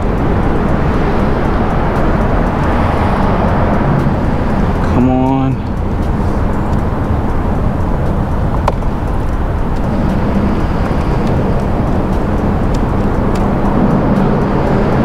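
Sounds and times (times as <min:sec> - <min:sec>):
traffic rumble on bridge: 0:00.0 - 0:15.0.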